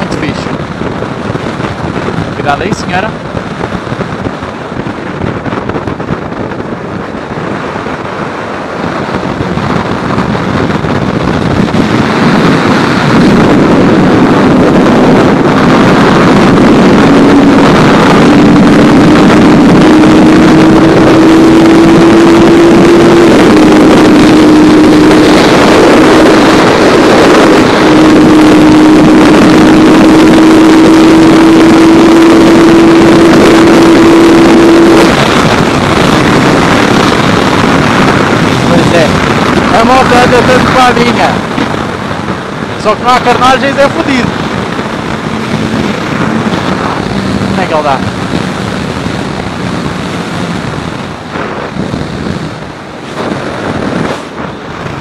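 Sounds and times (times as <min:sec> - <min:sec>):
motorcycle engine revving high: 0:00.0 - 0:55.0
wind rushing on microphone: 0:00.0 - 0:55.0.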